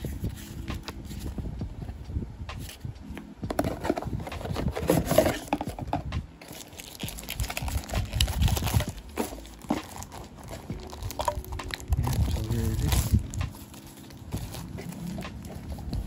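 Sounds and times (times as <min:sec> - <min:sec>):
cardboard and plastic rustling: 0:00.0 - 0:02.0, 0:03.4 - 0:16.0.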